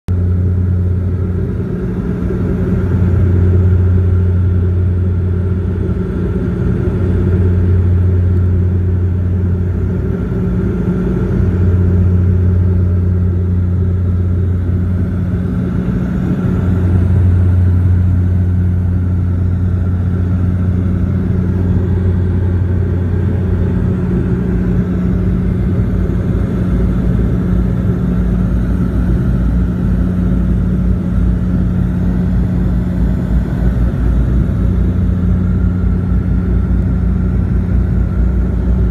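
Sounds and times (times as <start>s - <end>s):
high tone above propeller hum: 0.1s - 38.9s
propeller cabin drone: 0.1s - 38.9s.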